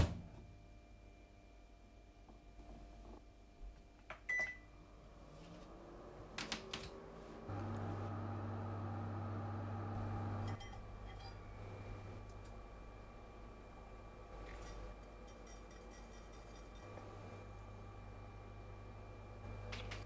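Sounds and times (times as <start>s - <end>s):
steady electric hum: 0.0s - 20.0s.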